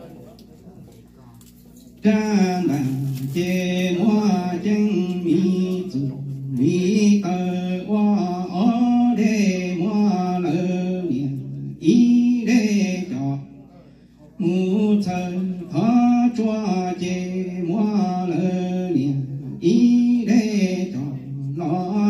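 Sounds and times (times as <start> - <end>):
man chanting into microphone: 2.0 - 22.0.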